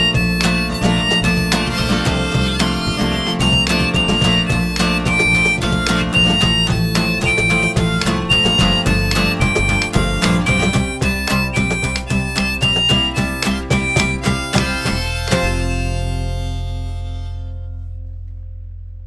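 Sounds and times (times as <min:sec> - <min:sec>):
harmonica held notes: 0:00.0 - 0:18.3
strummed guitar: 0:00.0 - 0:18.7.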